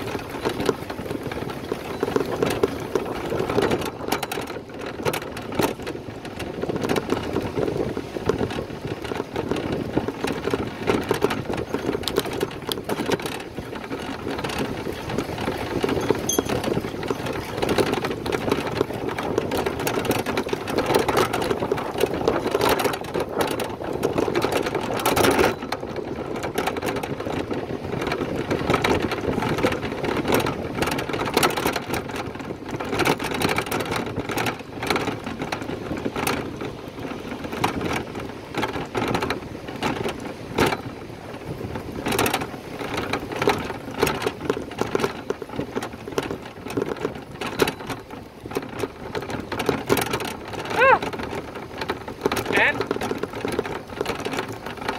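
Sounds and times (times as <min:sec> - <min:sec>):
small knocks and clicks: 0:00.0 - 0:41.0, 0:42.0 - 0:54.9
bicycle rattling: 0:00.0 - 0:54.9.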